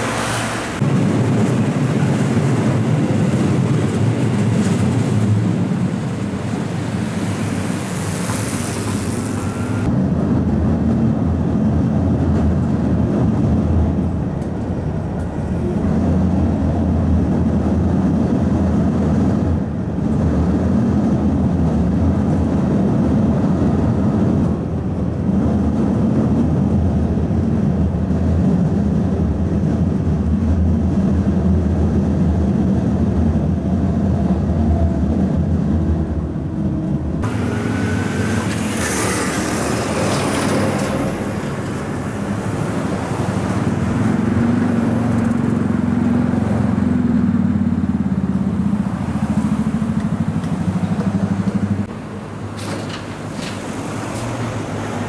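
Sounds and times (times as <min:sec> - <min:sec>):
truck passing: 0:00.0 - 0:27.8, 0:30.9 - 0:55.0
electric train rumbling: 0:00.0 - 0:55.0
road traffic noise: 0:00.0 - 0:55.0.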